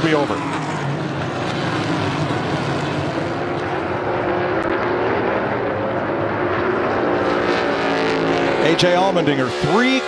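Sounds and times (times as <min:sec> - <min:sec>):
race car engines accelerating: 0:00.0 - 0:10.0.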